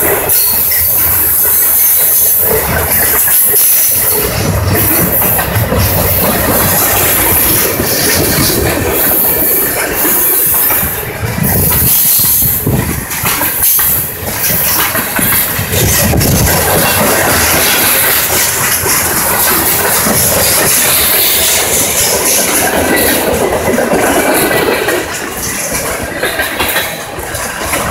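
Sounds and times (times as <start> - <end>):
freight train cars rolling past: 0.0 - 27.9.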